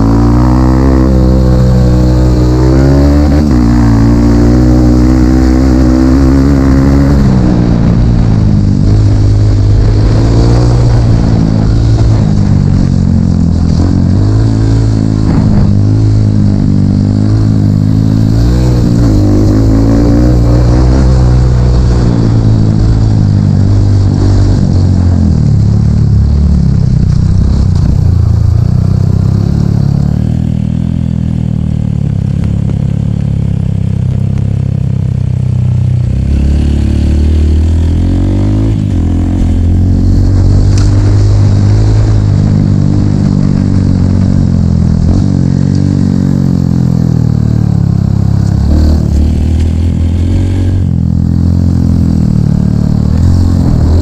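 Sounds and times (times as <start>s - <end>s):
dirt bike engine revving: 0.0s - 26.0s, 36.0s - 54.0s.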